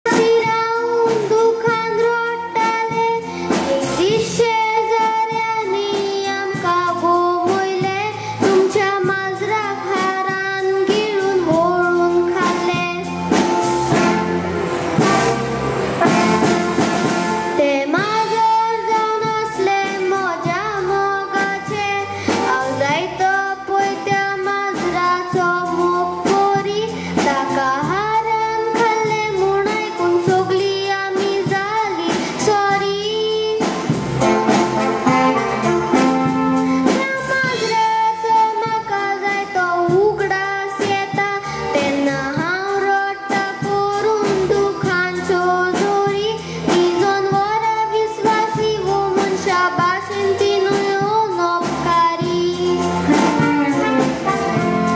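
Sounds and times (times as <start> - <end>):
girl singing into a microphone: 0.0 - 14.0, 17.6 - 34.0, 36.2 - 54.7
instrumental accompaniment: 0.0 - 54.9.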